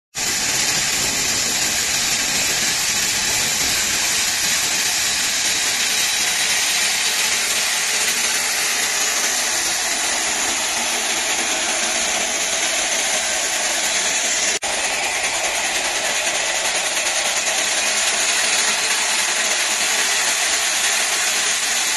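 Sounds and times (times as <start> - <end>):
saw blade grinding stone: 0.2 - 21.9.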